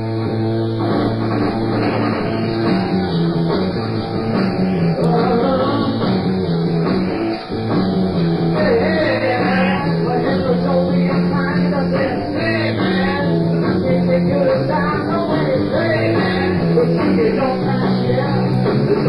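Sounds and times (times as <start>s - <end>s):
electric guitar riff: 0.0s - 19.0s
pulsing bass line: 0.0s - 19.0s.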